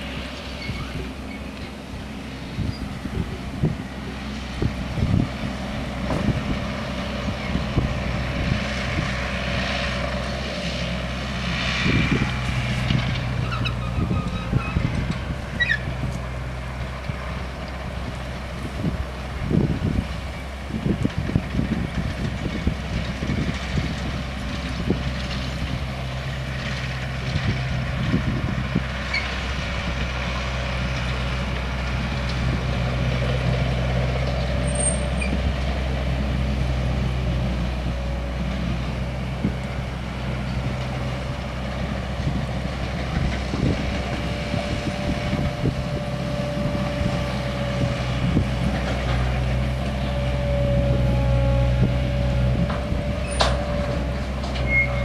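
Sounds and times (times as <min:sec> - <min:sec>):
low engine hum: 0:00.0 - 0:55.0.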